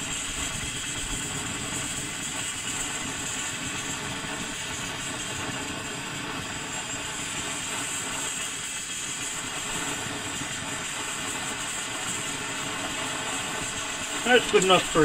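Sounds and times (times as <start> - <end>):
gasoline stove hissing: 0.0 - 15.0.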